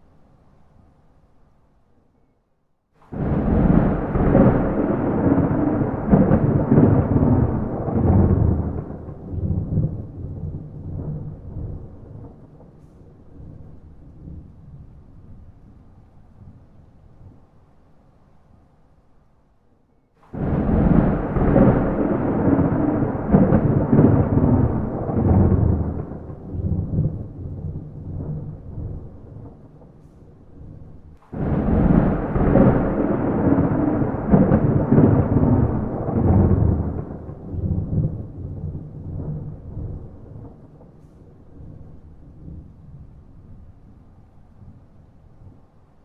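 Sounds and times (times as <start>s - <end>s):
thunder rolling: 3.0s - 17.4s, 20.2s - 45.7s.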